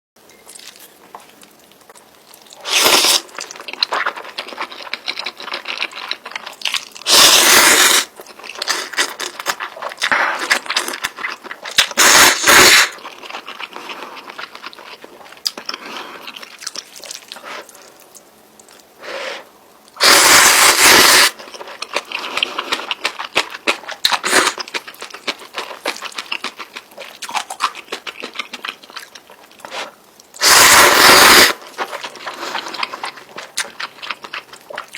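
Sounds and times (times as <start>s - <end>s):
chewing noodles: 0.4s - 18.9s, 19.8s - 34.9s.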